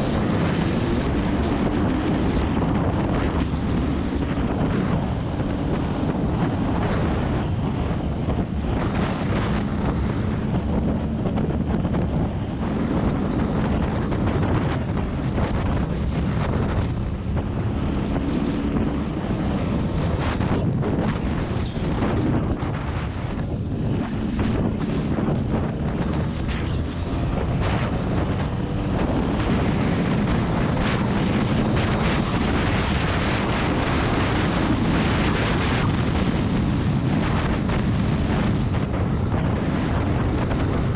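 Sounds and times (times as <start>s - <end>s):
off-road vehicle engine: 0.0s - 40.9s
wind buffeting microphone: 0.0s - 40.9s.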